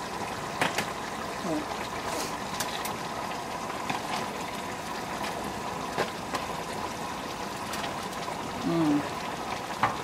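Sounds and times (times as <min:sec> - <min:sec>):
stew bubbling in a pan: 0:00.0 - 0:10.0.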